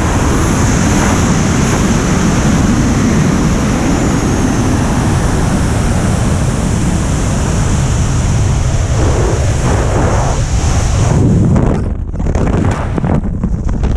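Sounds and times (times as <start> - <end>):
wind rushing over microphone: 0.0 - 13.9.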